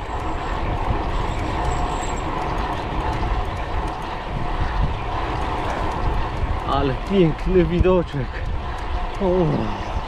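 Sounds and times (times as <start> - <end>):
bike tyres rolling on asphalt: 0.0 - 10.0
wind buffeting microphone: 0.0 - 10.0.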